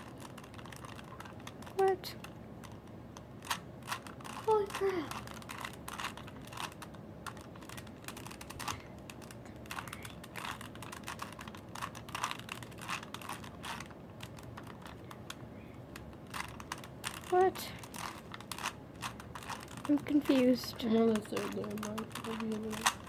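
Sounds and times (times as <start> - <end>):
puzzle cube clicking: 0.0 - 23.0.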